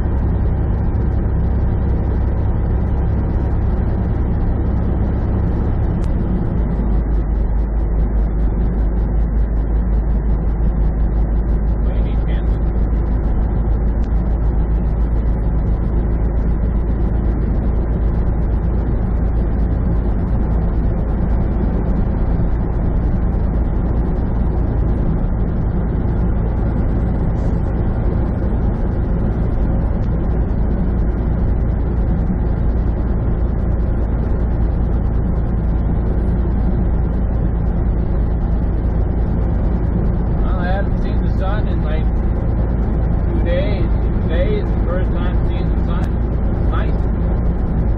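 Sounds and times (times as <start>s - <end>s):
truck engine drone: 0.0s - 47.9s
tyre and road noise: 0.0s - 47.9s.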